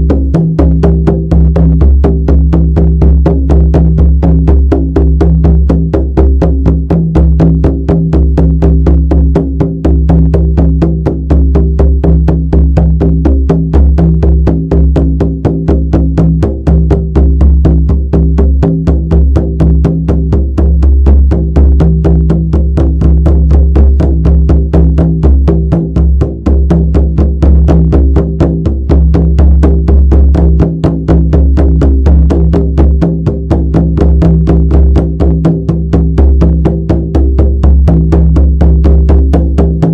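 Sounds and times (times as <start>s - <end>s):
deep drum beating rapidly: 0.0s - 39.9s.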